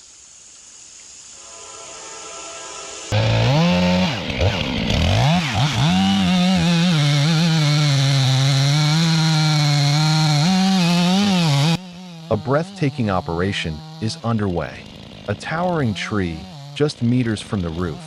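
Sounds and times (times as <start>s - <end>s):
chainsaw cutting wood: 3.1s - 18.0s.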